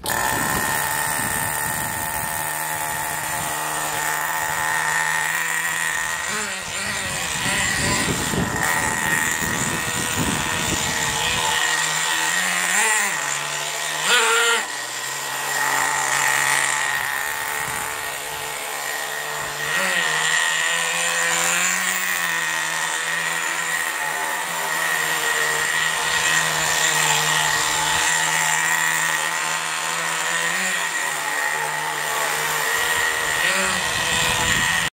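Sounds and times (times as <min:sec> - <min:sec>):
small nitro engine running: 0:00.0 - 0:35.0.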